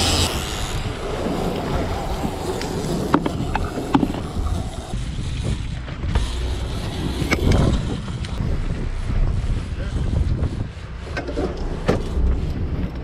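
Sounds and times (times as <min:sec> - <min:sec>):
boat engine running: 0:00.0 - 0:13.0
wind noise on microphone: 0:00.0 - 0:13.0.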